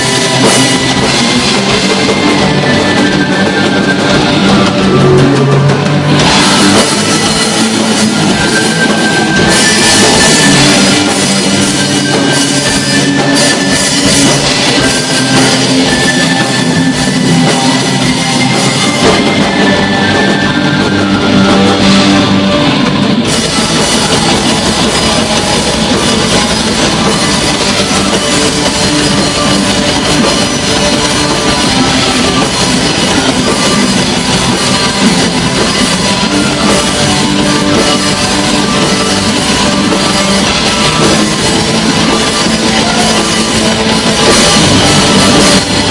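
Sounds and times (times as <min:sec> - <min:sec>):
distorted electric guitars: 0:00.0 - 0:45.9
drum kit: 0:00.0 - 0:45.9.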